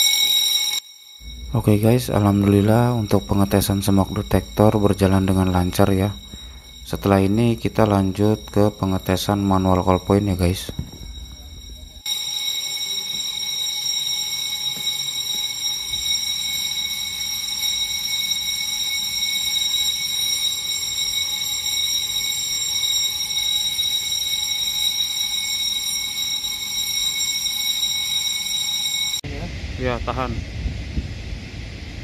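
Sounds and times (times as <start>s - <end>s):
fire alarm continuous tone: 0.0s - 29.3s.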